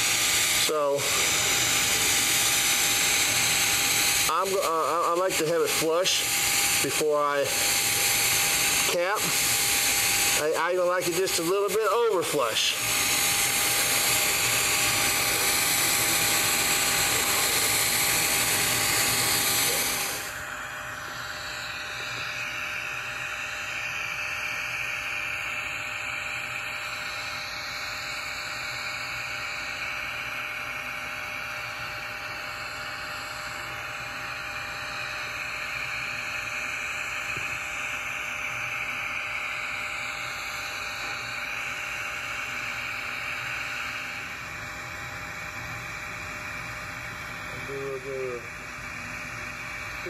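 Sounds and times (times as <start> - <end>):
welding arc hissing: 0.0 - 50.0.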